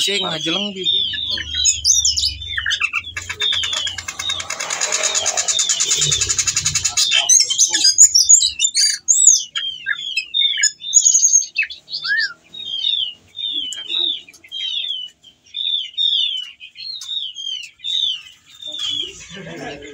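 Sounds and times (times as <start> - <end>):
thrush singing whistled notes: 0.0 - 19.3.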